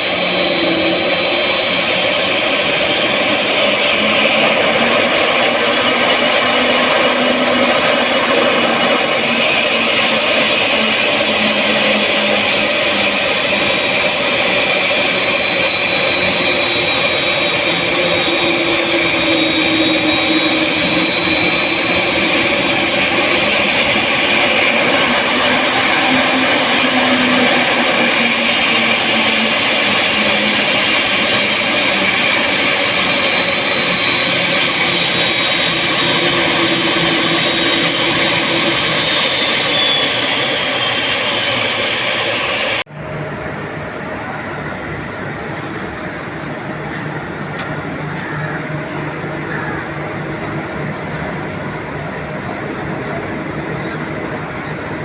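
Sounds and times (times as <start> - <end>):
high jet engine whine: 0.0 - 55.0
jet engines rushing: 0.0 - 55.0.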